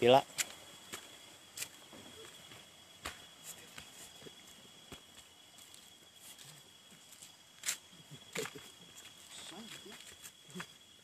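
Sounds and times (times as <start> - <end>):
faint high-pitched whine: 0.0 - 11.0
footsteps: 0.3 - 10.7.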